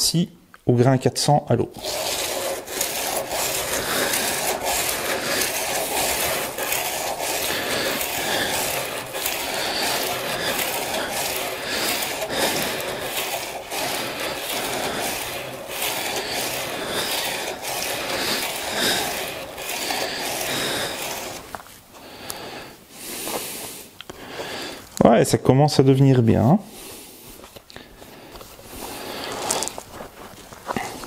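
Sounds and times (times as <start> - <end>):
chisel scraping on wet sandpaper: 1.7 - 24.8, 26.7 - 31.0.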